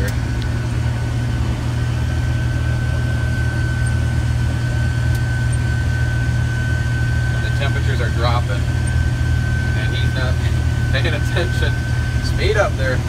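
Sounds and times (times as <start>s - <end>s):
low engine drone: 0.0s - 13.0s
thin high whine: 1.6s - 13.0s.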